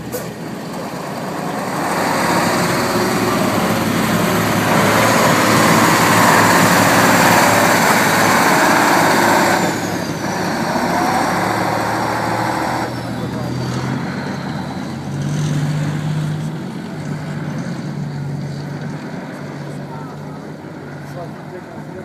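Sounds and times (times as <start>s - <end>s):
truck diesel engine working hard: 0.0s - 22.0s.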